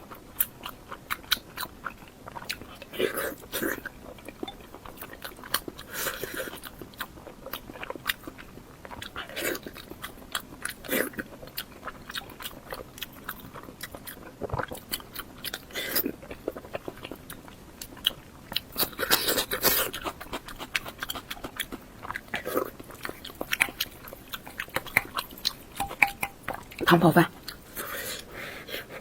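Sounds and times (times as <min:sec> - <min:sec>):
chewing and biting sounds: 0:00.0 - 0:29.0.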